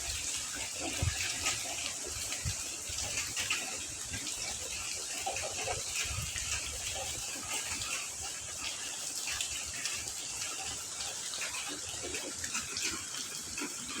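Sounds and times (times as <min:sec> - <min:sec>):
raindrops striking and splashing: 0:00.0 - 0:14.0.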